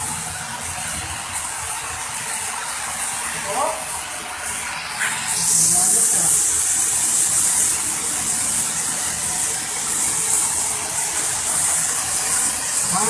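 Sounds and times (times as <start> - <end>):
loud high hiss: 0.0 - 13.0.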